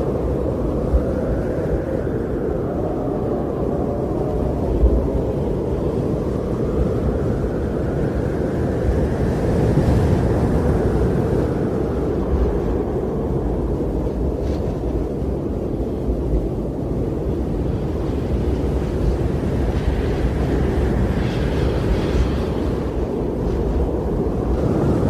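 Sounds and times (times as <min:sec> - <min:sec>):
wind blowing deep rumbling rush: 0:00.0 - 0:25.0.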